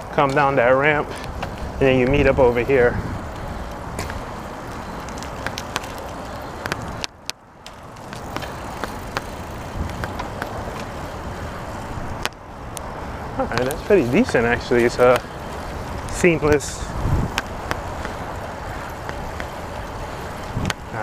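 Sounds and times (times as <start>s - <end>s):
bicycle tyres rumbling: 0.0s - 21.0s
wind noise: 0.0s - 21.0s.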